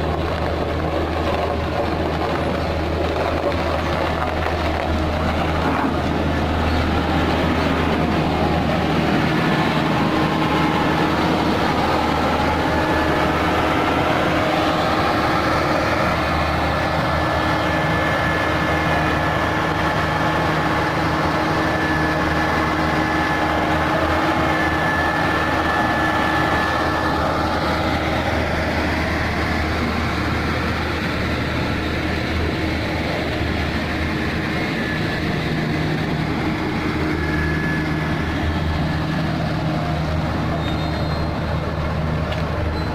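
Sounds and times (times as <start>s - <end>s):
faint high whine: 0.0s - 42.9s
heavy engine running: 0.0s - 42.9s.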